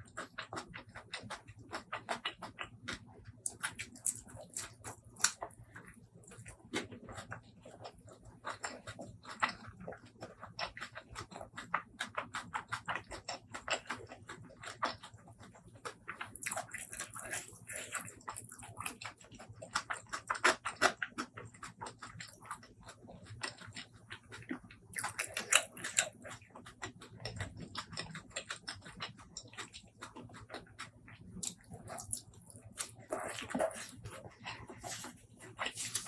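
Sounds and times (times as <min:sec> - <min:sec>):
wet chewing and mouth smacking: 0:00.0 - 0:36.0.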